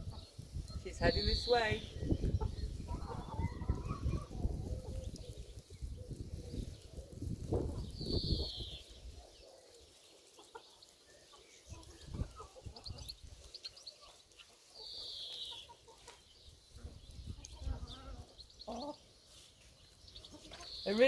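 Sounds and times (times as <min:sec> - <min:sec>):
hens clucking: 0:01.0 - 0:19.5, 0:20.1 - 0:21.0.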